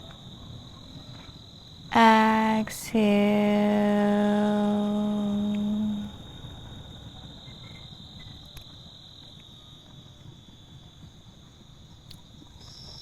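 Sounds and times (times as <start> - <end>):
faint low rumble: 0.0 - 13.0
insects chirring: 0.0 - 13.0.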